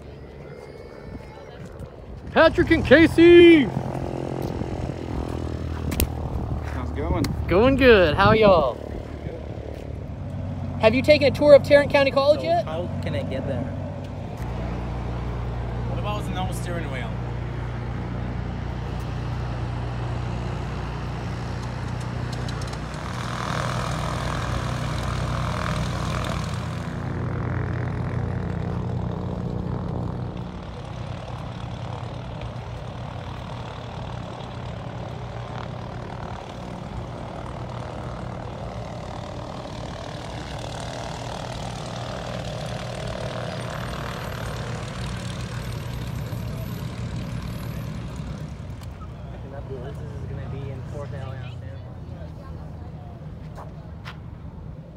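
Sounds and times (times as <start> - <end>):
propeller aircraft engine running: 0.0 - 54.9.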